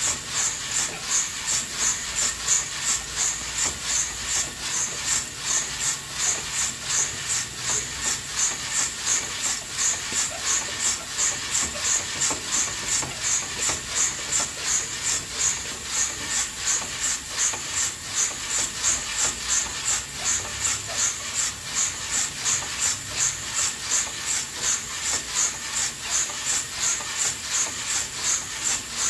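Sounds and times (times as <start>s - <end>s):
coffee beans swishing in roaster: 0.0s - 29.0s.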